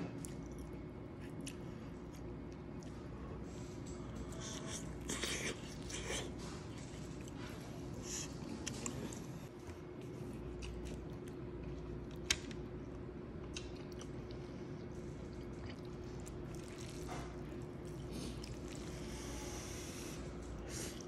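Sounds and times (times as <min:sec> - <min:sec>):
steady low hum: 0:00.0 - 0:21.0
chewing: 0:00.1 - 0:03.2, 0:03.8 - 0:12.6, 0:13.4 - 0:19.1.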